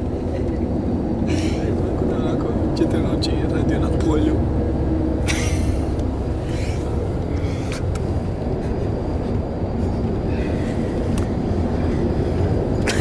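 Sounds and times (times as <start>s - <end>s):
bus engine and tyres rumbling: 0.0s - 13.0s.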